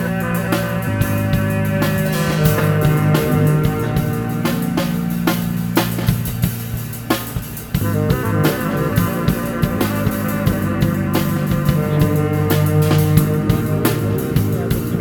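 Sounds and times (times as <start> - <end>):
drum kit hits: 0.0 - 15.0
electric guitar chords: 0.0 - 15.0.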